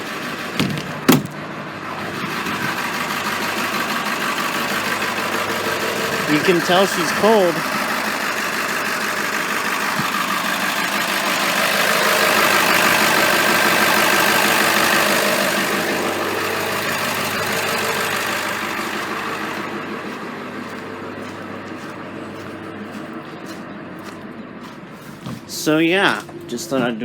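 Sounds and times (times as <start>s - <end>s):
diesel bus engine idling: 0.0s - 27.0s.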